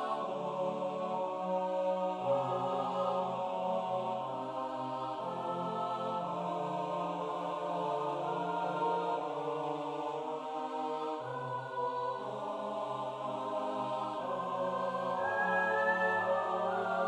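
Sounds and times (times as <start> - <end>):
a cappella choir singing: 0.0 - 17.0.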